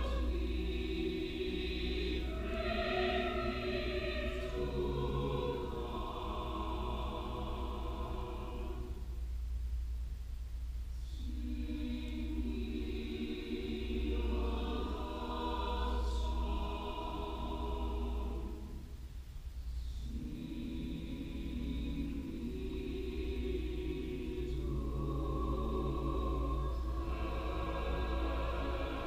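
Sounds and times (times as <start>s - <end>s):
mixed choir singing: 0.0s - 9.1s, 11.2s - 18.9s, 19.9s - 29.0s
steady low hum: 0.0s - 29.0s.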